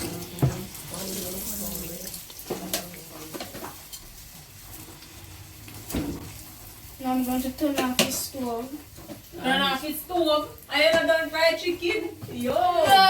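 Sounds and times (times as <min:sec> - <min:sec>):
kitchen hiss: 0:00.0 - 0:11.8.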